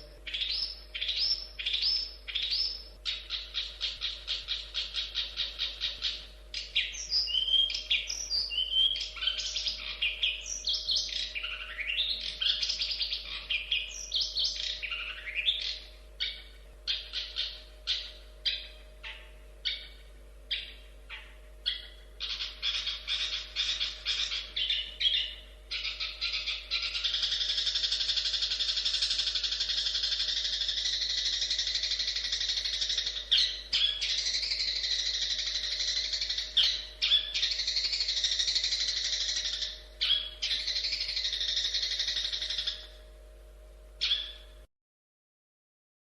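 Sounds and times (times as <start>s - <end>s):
bird singing scratchy notes: 0.0s - 43.1s, 44.0s - 44.7s
harsh bird notes: 0.0s - 43.4s, 44.0s - 44.7s.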